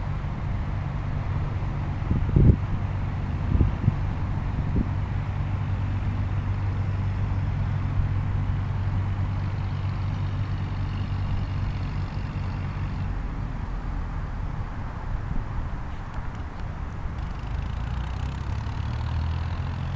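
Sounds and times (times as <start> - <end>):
motor engine humming: 0.0 - 19.9
outdoor background noise: 0.0 - 19.9.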